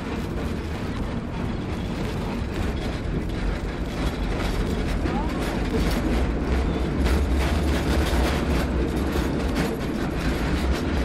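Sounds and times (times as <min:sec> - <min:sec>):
cable car rumbling: 0:00.0 - 0:11.0.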